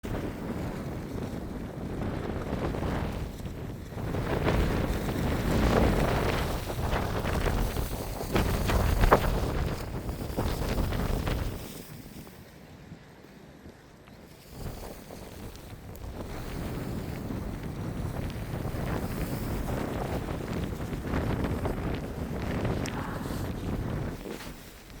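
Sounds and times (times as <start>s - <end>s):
storm wind buffeting microphone: 0.0s - 25.0s.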